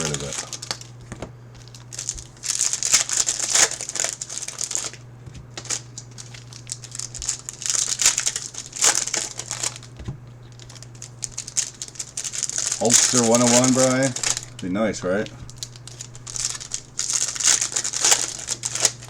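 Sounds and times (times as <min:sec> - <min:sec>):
low steady hum: 0:00.0 - 0:19.0
plastic wrapping crinkling and tearing: 0:00.0 - 0:19.0.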